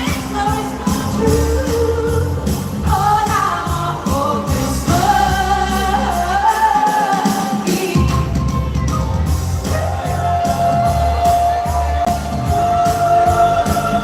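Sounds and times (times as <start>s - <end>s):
bass line: 0.0s - 6.9s, 8.0s - 14.0s
live dance-pop music: 0.0s - 14.0s.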